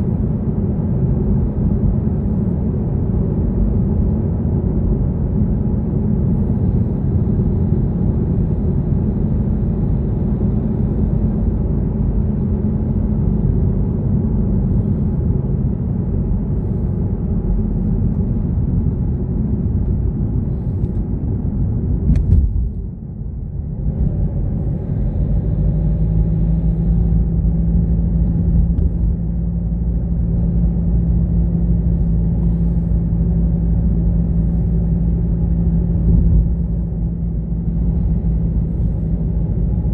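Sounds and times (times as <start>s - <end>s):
car engine and road noise: 0.0s - 39.9s
steady hum: 0.0s - 39.9s.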